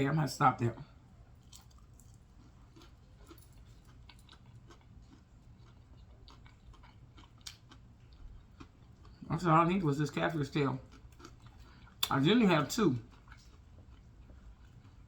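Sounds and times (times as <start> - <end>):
person chewing: 1.3 - 9.4, 10.8 - 15.0.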